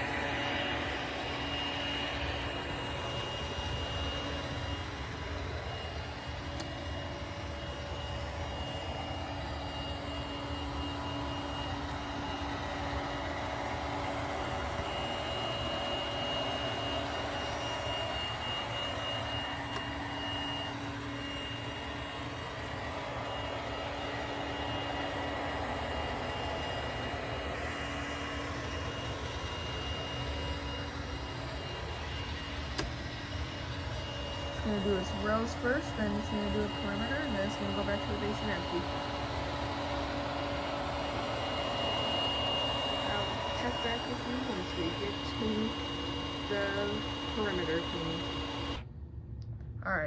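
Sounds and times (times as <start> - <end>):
robot vacuum whirring: 0.0 - 48.8.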